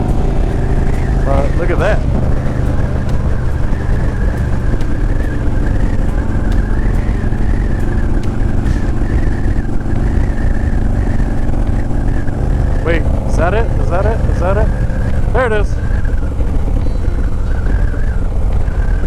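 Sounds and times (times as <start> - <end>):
motorcycle engine cruising: 0.0 - 19.0
road and wind noise: 0.0 - 19.0.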